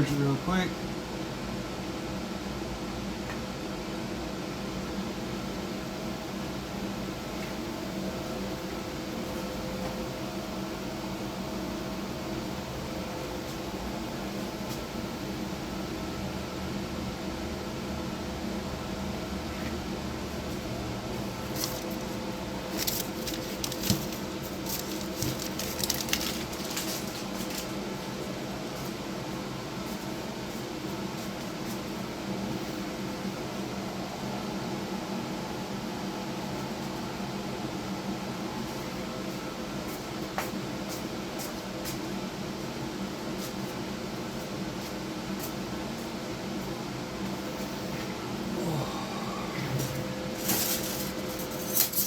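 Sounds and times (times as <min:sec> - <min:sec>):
welding setup hum: 0:00.0 - 0:52.0.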